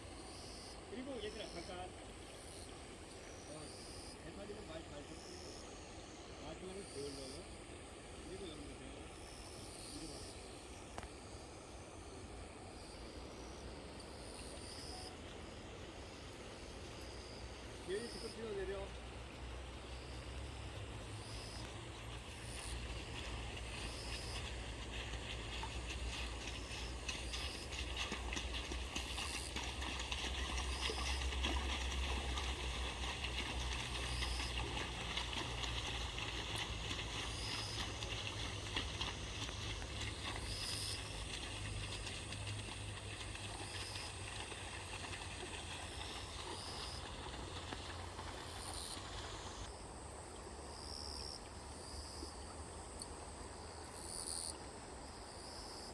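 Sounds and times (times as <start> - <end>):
insect chirps: 0.0 - 55.9.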